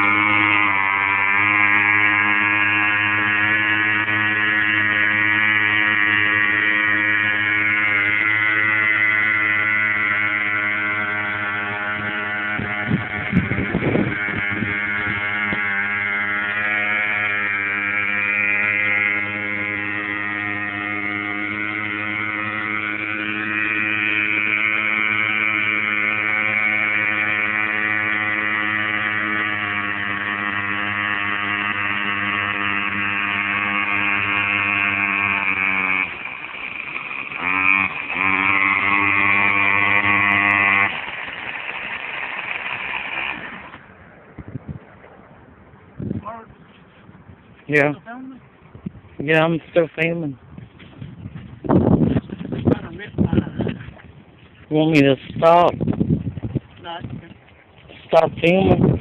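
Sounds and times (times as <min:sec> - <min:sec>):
small weedeater engine running: 0:00.0 - 0:59.0.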